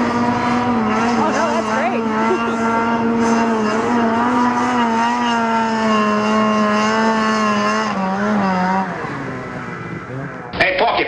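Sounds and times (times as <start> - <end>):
snowmobile engine at high revs: 0.0 - 10.6.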